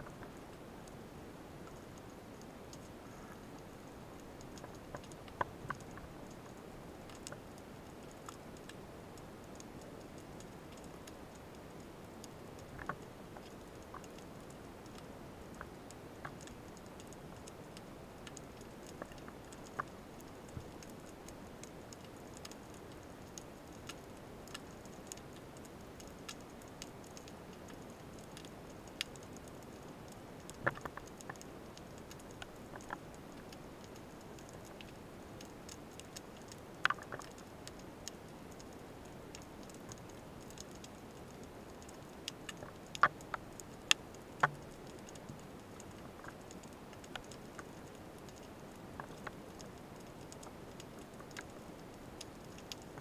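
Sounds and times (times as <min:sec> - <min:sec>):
faint steady hiss: 0:00.0 - 0:53.0
underwater clicks and ticks: 0:00.0 - 0:53.0.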